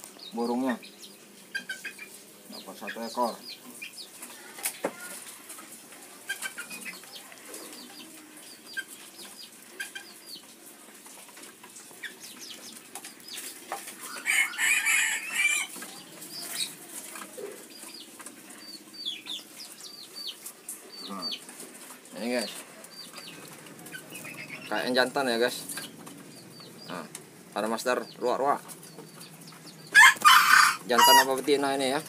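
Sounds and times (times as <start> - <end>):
bird chirps and clucks: 0.0 - 32.0.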